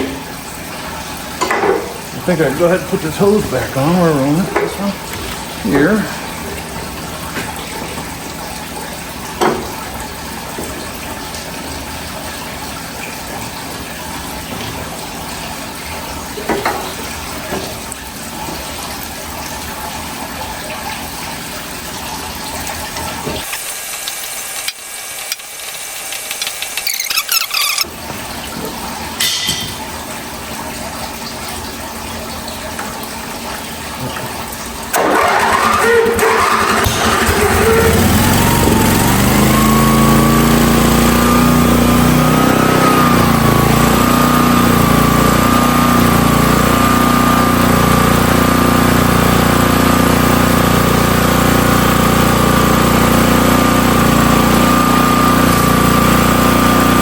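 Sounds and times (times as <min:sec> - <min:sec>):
pressure washer running: 0:00.0 - 0:18.9, 0:19.9 - 0:28.1, 0:34.9 - 0:57.0
water rushing: 0:00.0 - 0:57.0.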